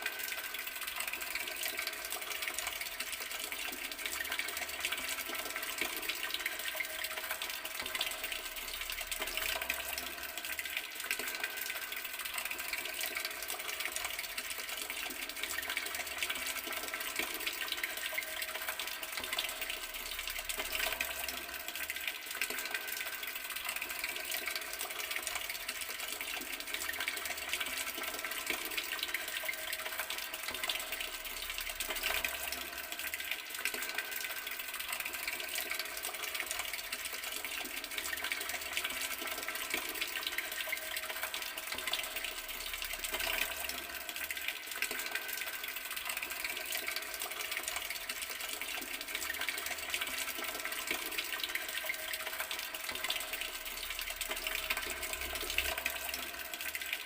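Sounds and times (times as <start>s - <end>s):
water running from a tap: 0.0s - 57.0s.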